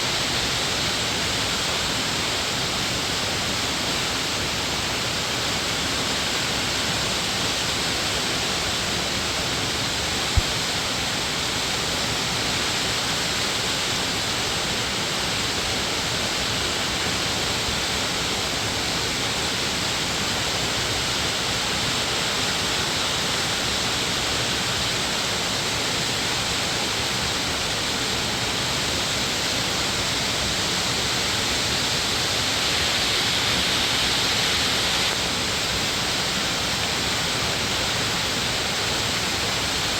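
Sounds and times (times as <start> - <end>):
water rushing in a stream: 0.0 - 39.9.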